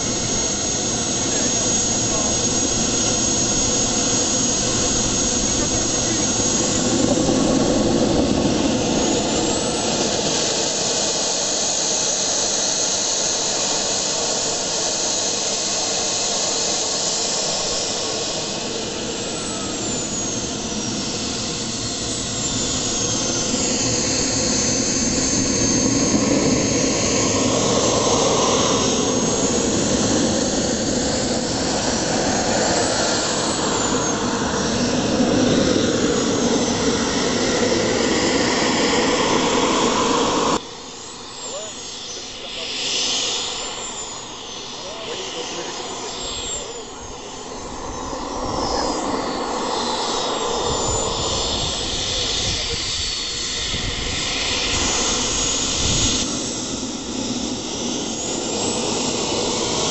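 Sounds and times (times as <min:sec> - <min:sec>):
model jet turbine whine: 0:00.0 - 0:59.9.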